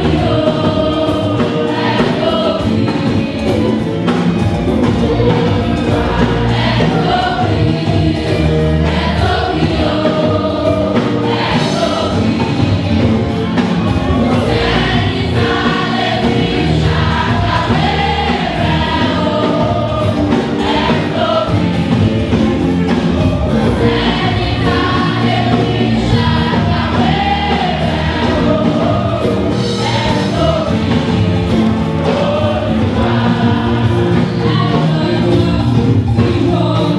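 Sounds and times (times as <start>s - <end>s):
drum hits: 0.0s - 36.6s
band accompaniment: 0.0s - 36.9s
choir singing gospel song: 0.0s - 36.9s.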